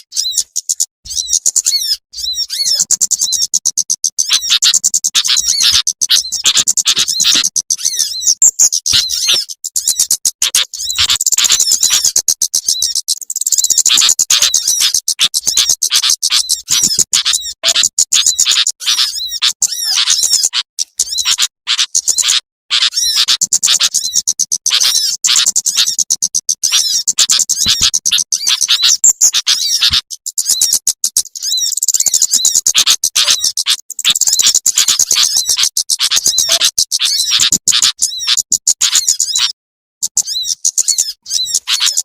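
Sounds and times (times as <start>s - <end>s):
songbirds chirping and trilling: 0.0s - 42.0s.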